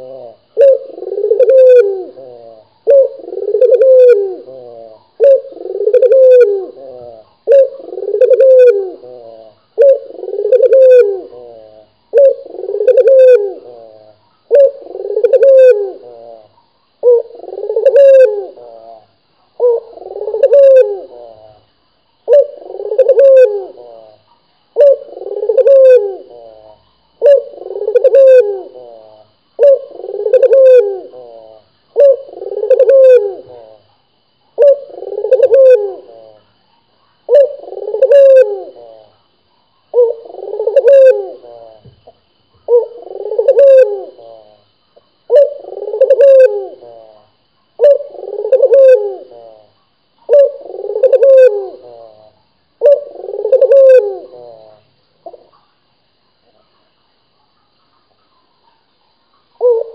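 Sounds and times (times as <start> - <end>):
dove cooing: 0.0 - 36.4, 37.2 - 55.6, 59.6 - 59.9.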